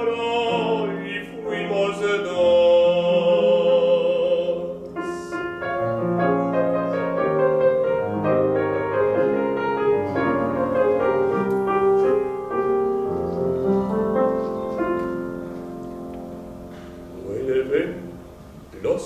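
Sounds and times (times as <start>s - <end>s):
grand piano playing: 0.0s - 19.0s.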